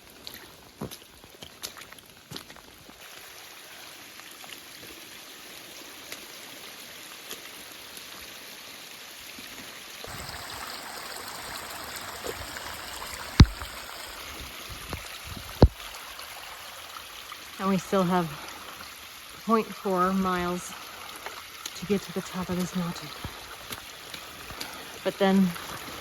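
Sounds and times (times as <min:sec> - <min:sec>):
rainwater trickling down trail: 0:00.1 - 0:26.0.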